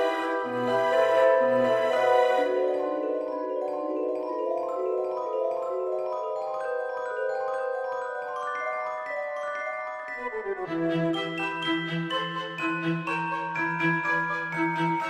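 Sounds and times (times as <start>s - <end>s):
bell-like mallet instrument melody: 0.0s - 15.0s.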